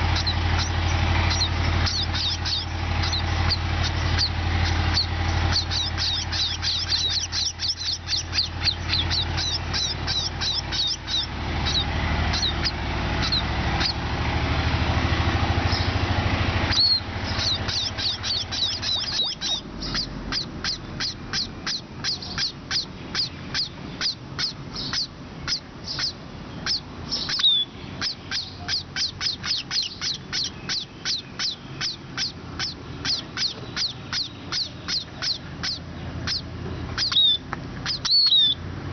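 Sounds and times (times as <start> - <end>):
sparrows chirping: 0.0 - 38.7
low engine-like rumble: 0.0 - 38.9.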